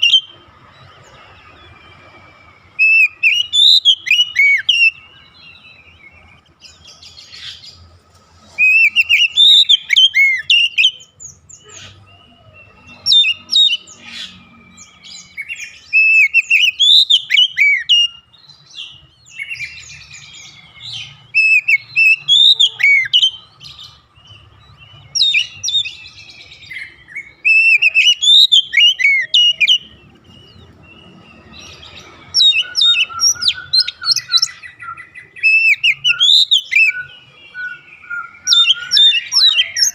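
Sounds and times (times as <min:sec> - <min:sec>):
bird singing whistled phrases: 0:01.2 - 0:07.8, 0:08.5 - 0:39.9.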